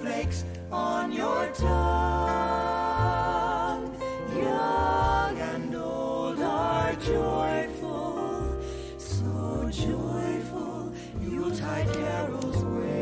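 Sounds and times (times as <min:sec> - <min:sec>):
slow christmas song: 0:00.0 - 0:13.0.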